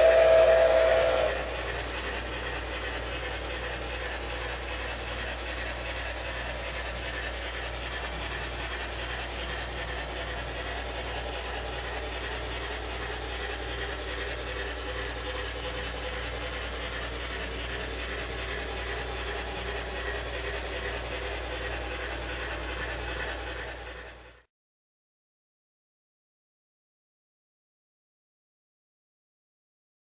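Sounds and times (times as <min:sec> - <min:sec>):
constant low hum: 0:00.0 - 0:24.4
train running: 0:00.0 - 0:24.5.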